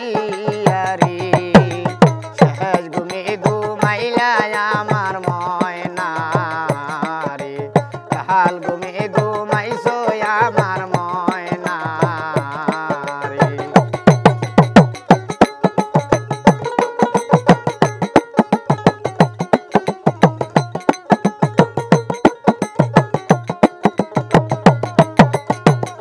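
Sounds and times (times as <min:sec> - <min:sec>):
hand drum beat: 0:00.0 - 0:26.0.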